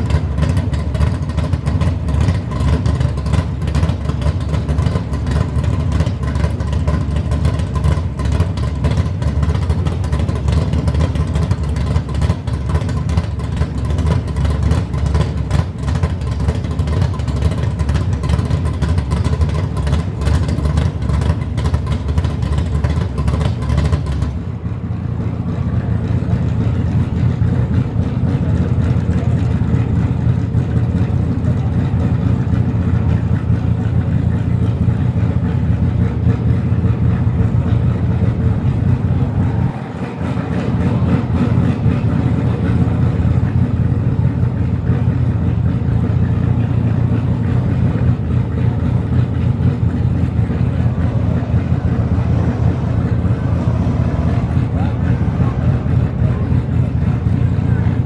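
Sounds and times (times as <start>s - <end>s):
drag car engines idling: 0.0s - 58.0s.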